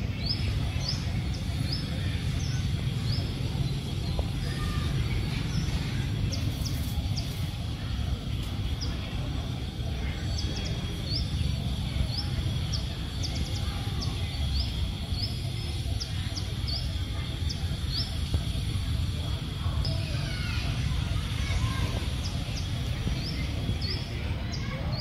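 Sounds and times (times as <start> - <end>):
low outdoor rumble: 0.0 - 25.0
small bird chirping: 0.0 - 25.0.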